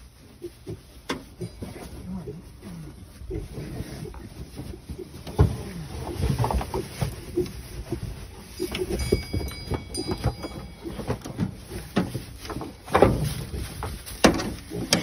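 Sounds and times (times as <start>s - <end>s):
rustling straw: 0.0s - 15.0s.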